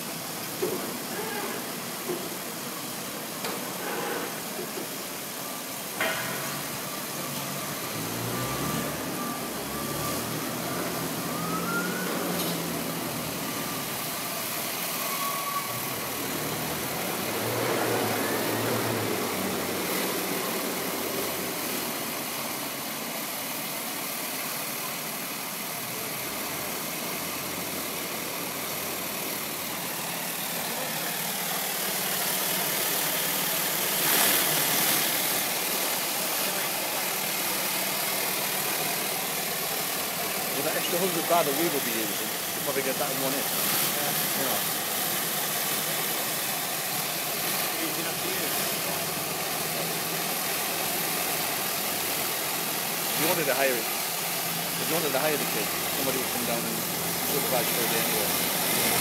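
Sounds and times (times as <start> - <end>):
engine-driven pump running: 0.0 - 59.0
high-pressure water spray hissing: 0.0 - 59.0.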